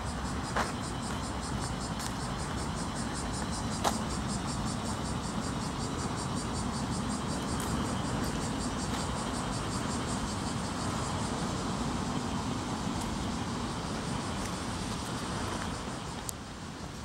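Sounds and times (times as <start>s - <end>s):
cicadas shrilling: 0.0s - 17.0s.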